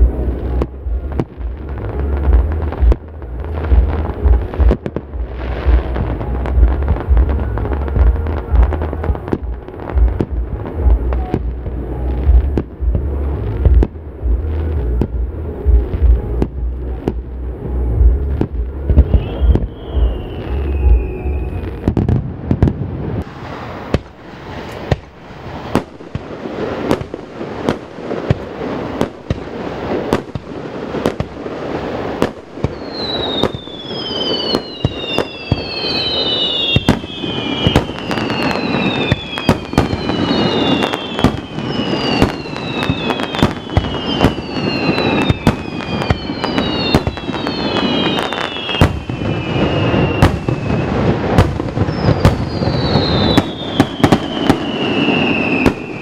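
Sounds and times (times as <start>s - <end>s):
fireworks bangs and crackles: 0.0s - 56.0s
whistling fireworks: 0.0s - 56.0s.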